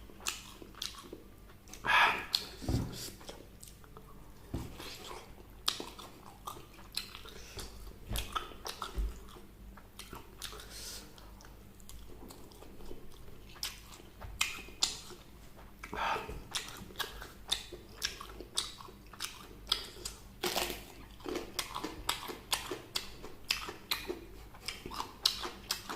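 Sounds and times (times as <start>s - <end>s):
person chewing crunchy food: 0.0s - 4.0s, 4.6s - 25.9s.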